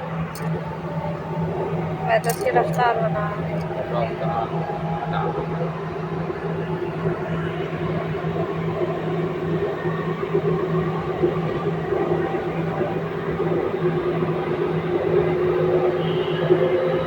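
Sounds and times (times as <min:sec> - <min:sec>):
train interior hum and rumble: 0:00.0 - 0:17.0.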